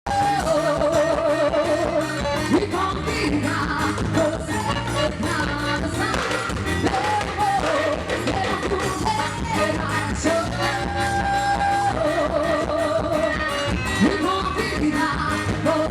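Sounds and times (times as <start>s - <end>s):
band with steady beat: 0.1s - 15.9s
person singing with vibrato: 0.1s - 15.9s.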